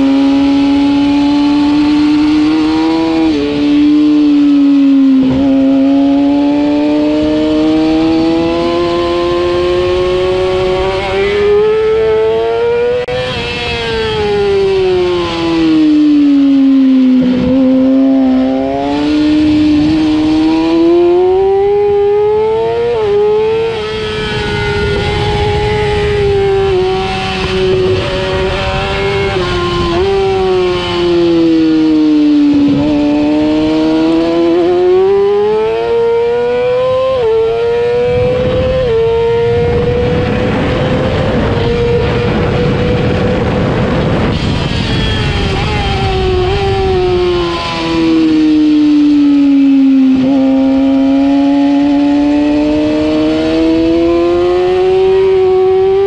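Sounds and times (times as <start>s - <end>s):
motorcycle engine and exhaust: 0.0s - 56.0s
wind rush: 0.0s - 56.0s.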